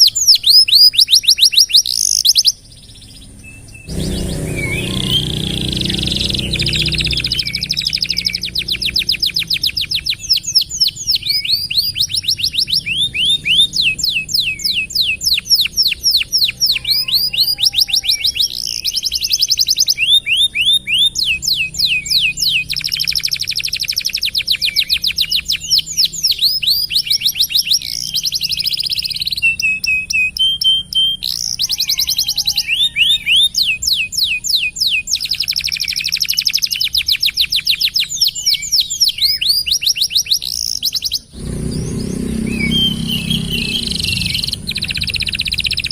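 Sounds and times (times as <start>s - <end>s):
canary singing in trills: 0.0s - 45.9s.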